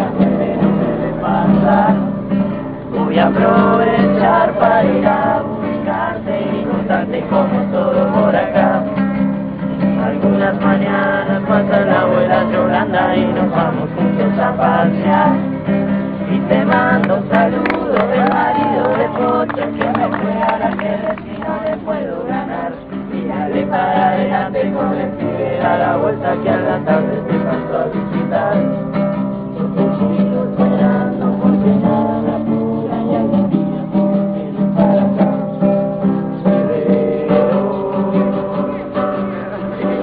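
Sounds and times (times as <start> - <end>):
person singing: 0.0 - 9.1, 16.2 - 40.0
acoustic guitar: 0.0 - 40.0.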